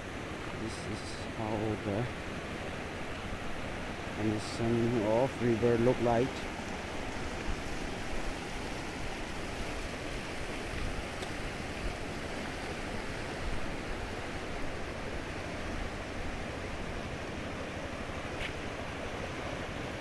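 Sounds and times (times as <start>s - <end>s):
river rushing through rapids: 0.0s - 20.0s.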